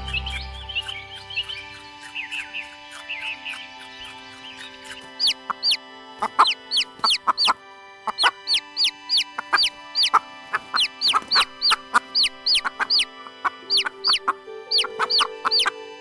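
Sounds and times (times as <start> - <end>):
background music: 0.0 - 16.0
chickens calling: 0.0 - 16.0
chickens clucking: 0.0 - 16.0.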